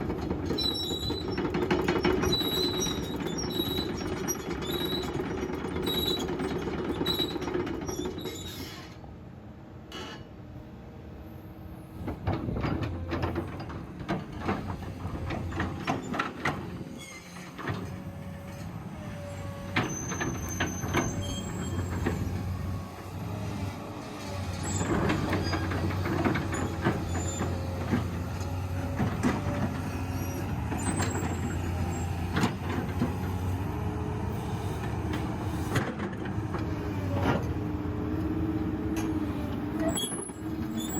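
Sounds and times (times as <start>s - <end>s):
excavator diesel engine running: 0.0s - 8.2s, 11.8s - 40.9s.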